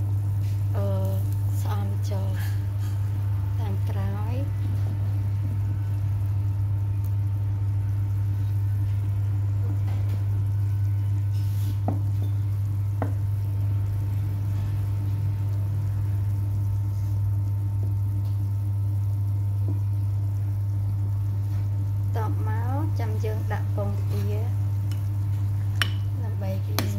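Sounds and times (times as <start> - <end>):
loud steady low hum: 0.0 - 26.9
soup simmering in clay pot: 0.0 - 26.9.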